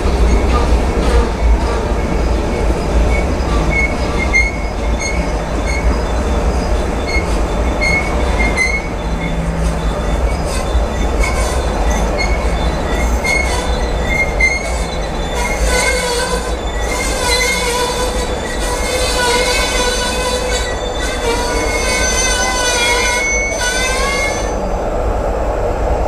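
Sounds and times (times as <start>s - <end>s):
high-pitched wheel squeals: 0.0s - 24.7s
rumble of train wheels on rail: 0.0s - 26.0s.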